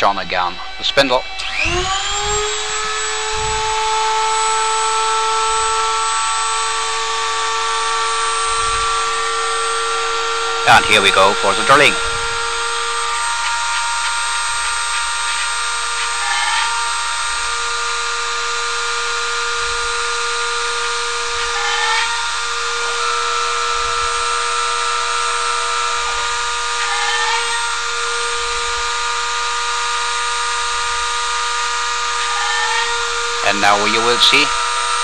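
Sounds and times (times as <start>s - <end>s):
brief rising whine: 0.0s - 35.0s
milling machine whine: 0.0s - 35.0s.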